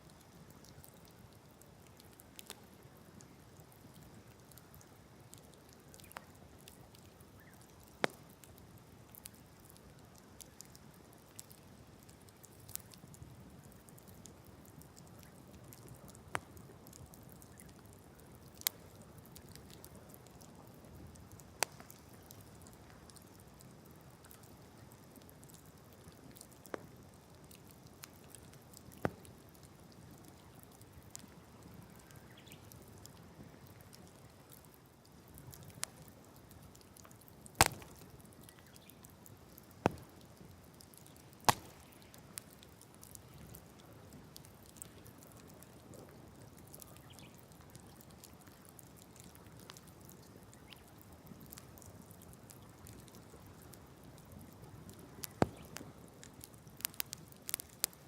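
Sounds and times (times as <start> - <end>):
low fire hiss: 0.0 - 58.0
wood fire crackling and popping: 0.1 - 58.0.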